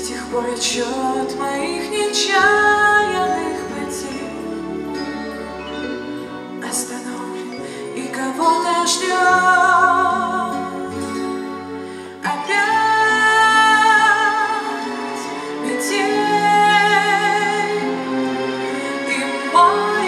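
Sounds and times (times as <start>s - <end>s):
woman singing into a microphone: 0.0s - 4.6s, 6.6s - 11.3s, 12.0s - 20.0s
backing music: 0.0s - 20.0s.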